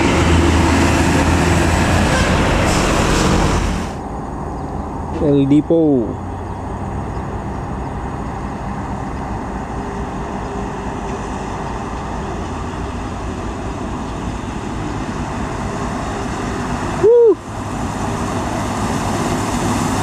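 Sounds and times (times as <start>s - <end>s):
large vehicle engine: 0.0s - 20.0s
tyre and road noise: 0.0s - 20.0s.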